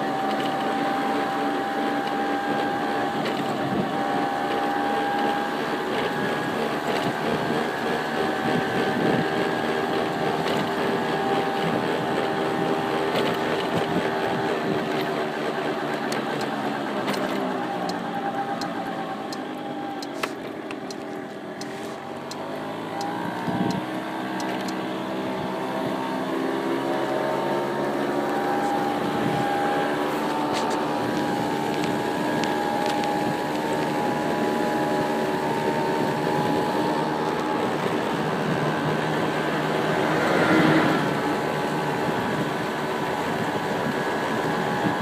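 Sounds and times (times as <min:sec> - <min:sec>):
car engine hum: 0:00.0 - 0:45.0
road noise inside car: 0:00.0 - 0:45.0.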